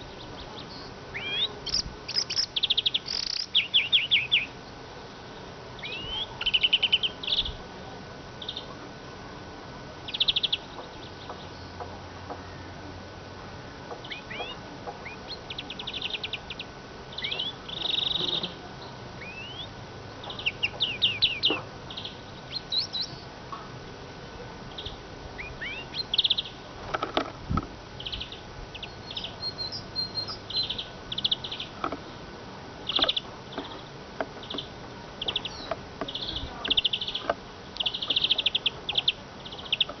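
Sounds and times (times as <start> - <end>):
bird twittering and buzzy trills: 0.0 - 7.6, 8.3 - 8.8, 10.0 - 12.8, 13.7 - 40.0.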